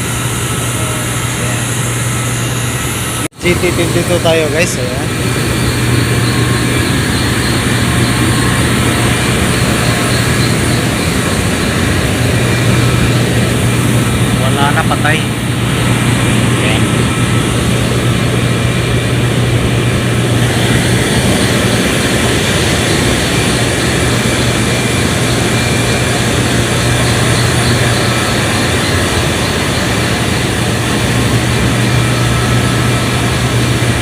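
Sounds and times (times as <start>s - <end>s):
power plant machinery drone: 0.0s - 34.0s.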